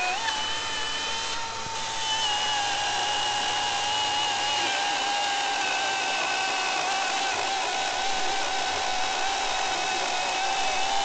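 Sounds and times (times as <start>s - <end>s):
electric chainsaw cutting log: 0.0s - 11.0s.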